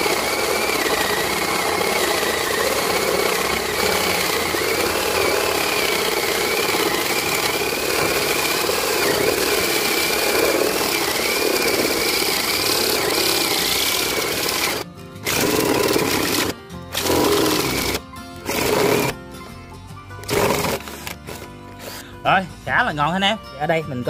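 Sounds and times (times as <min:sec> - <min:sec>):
cordless drill cutting with hole saw: 0:00.0 - 0:19.2, 0:20.2 - 0:22.1.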